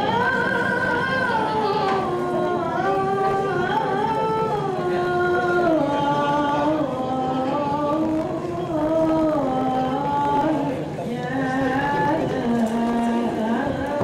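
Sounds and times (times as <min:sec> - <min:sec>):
person singing slow melody: 0:00.0 - 0:14.0.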